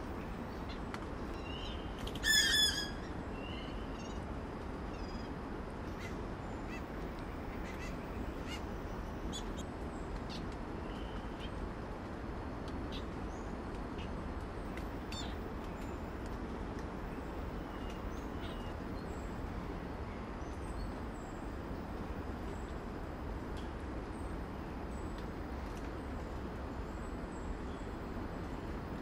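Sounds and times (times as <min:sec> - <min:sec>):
low rushing background noise: 0:00.0 - 0:29.0.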